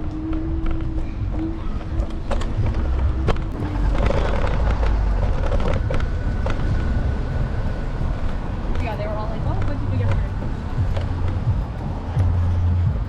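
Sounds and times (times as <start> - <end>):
road and wind rumble: 0.0 - 13.0
steady hum: 0.0 - 13.0.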